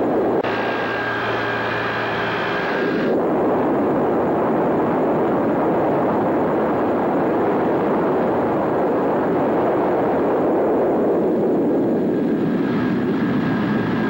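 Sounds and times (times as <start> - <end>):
aircraft engines running: 0.0 - 14.0.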